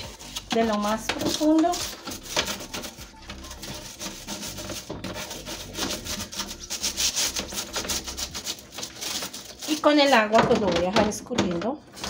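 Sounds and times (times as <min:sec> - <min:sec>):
brush scrubbing plastic and glass: 0:00.0 - 0:12.0.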